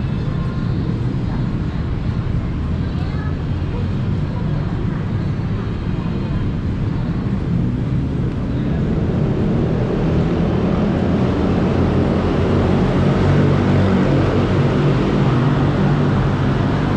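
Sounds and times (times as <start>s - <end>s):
city road traffic rumble: 0.0s - 16.9s.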